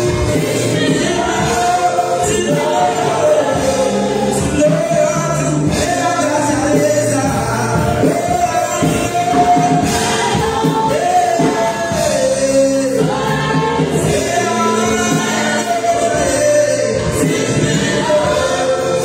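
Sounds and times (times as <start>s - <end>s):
band accompaniment: 0.0s - 19.0s
choir singing long notes: 0.0s - 19.0s.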